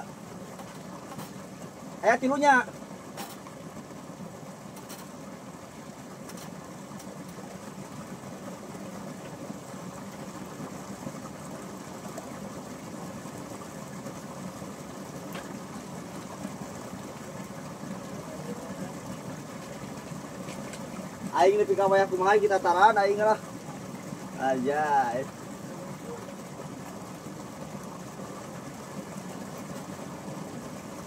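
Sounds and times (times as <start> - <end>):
low motor drone with hiss: 0.0 - 31.0.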